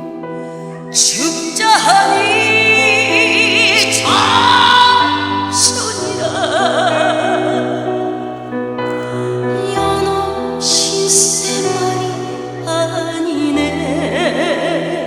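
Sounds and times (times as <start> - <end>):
person singing with vibrato: 0.0 - 15.0
sustained accompaniment: 0.0 - 15.0.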